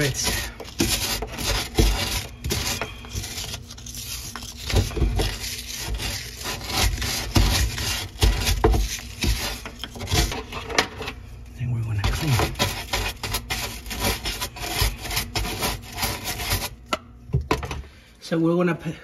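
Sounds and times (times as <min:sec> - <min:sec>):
wooden stick scraping pipe threads: 0:00.0 - 0:16.8.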